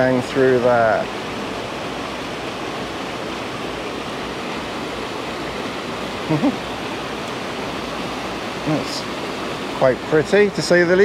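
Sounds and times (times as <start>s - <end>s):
stream rushing over waterfall: 0.0s - 11.0s.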